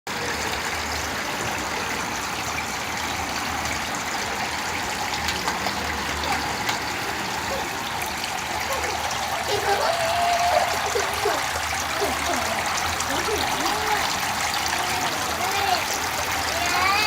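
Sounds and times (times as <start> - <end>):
faint low pump hum: 0.1 - 17.0
water falling and splashing: 0.1 - 17.0.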